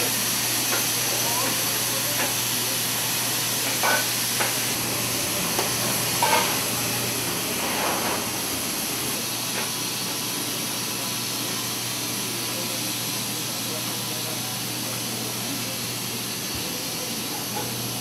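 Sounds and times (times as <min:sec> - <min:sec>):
kitchen room hiss: 0:00.0 - 0:18.0.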